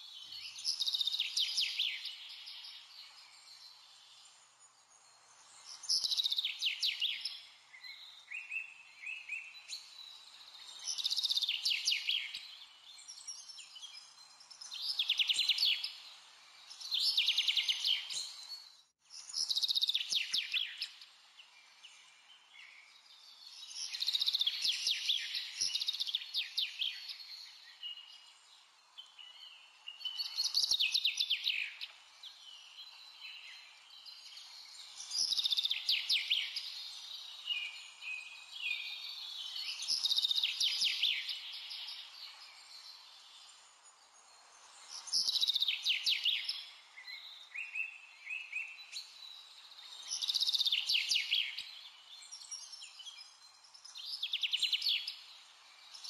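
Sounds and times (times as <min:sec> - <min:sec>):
small bird singing trills: 0:00.0 - 0:56.0.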